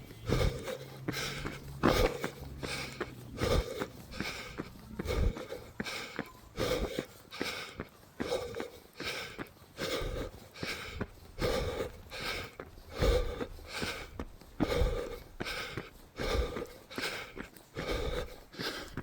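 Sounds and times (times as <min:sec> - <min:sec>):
heavy breathing of runner: 0:00.0 - 0:19.0.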